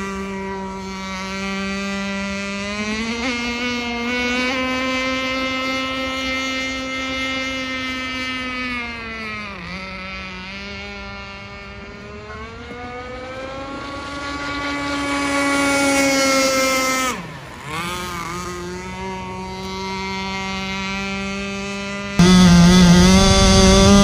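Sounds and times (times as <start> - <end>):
rc boat engine: 0.0 - 24.0.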